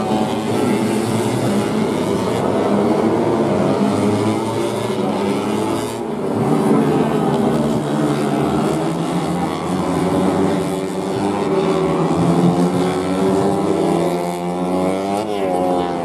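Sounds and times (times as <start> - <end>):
racing motorcycle engines: 0.0 - 16.0.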